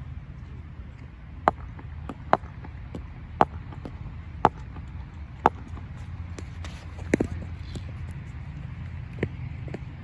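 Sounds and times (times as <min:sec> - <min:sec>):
low steady background rumble: 0:00.0 - 0:10.0.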